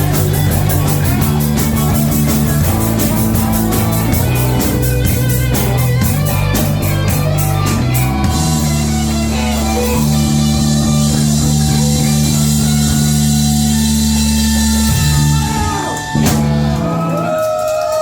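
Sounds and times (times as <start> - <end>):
rock band holding chord: 0.0 - 18.0.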